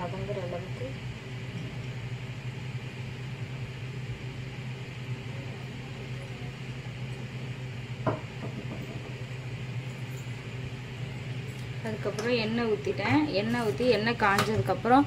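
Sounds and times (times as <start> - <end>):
low kitchen hum: 0.0 - 15.0.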